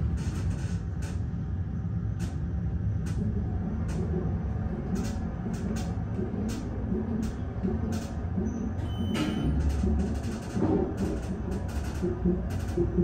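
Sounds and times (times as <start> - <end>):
elevator hum and rumble: 0.0 - 13.0.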